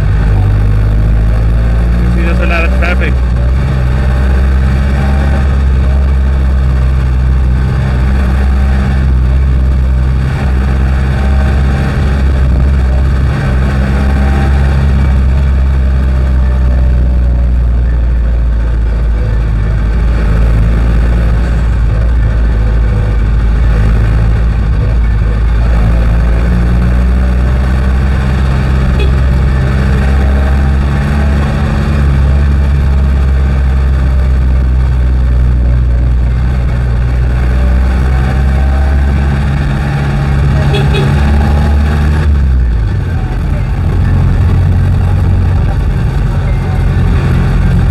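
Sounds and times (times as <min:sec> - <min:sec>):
diesel engine droning: 0:00.0 - 0:47.9
road noise: 0:00.0 - 0:47.9.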